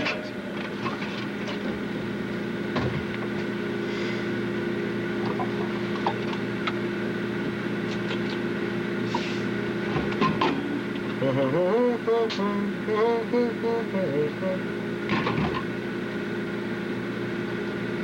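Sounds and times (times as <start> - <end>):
refrigerator humming: 0.0 - 18.0.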